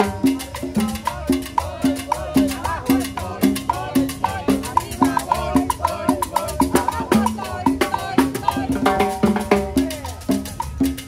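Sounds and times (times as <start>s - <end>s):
conga drum pattern: 0.0s - 11.0s
salsa band playing: 0.0s - 11.0s.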